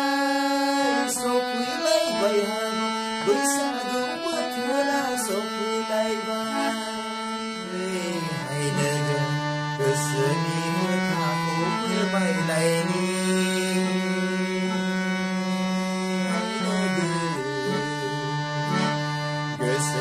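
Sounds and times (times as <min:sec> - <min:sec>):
harmonium chords: 0:00.0 - 0:20.0
man singing: 0:00.0 - 0:20.0.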